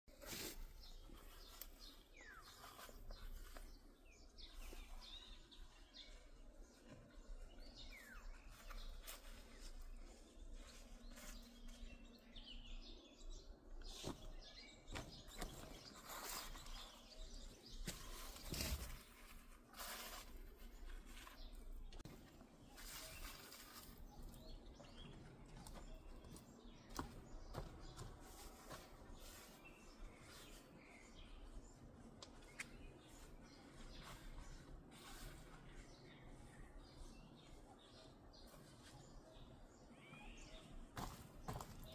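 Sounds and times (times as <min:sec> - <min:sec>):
birds chirping: 0:00.1 - 0:41.9.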